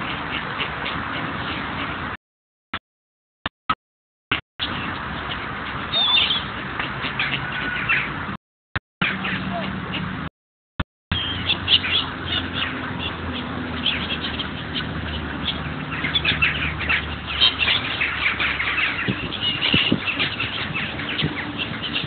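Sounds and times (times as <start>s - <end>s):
ducks quacking: 0.0s - 2.2s, 4.6s - 8.4s, 9.0s - 10.3s, 11.2s - 22.0s
gulls squawking: 0.0s - 2.2s, 4.6s - 8.4s, 9.0s - 10.2s, 11.1s - 22.0s.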